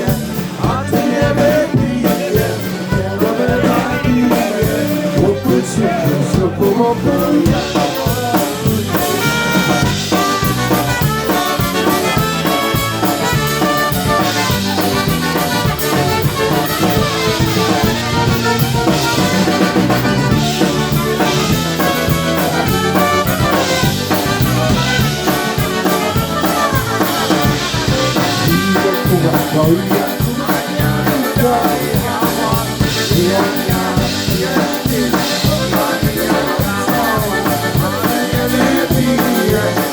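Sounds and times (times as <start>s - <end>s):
drum kit steady beat: 0.0s - 39.9s
polka band playing: 0.0s - 39.9s.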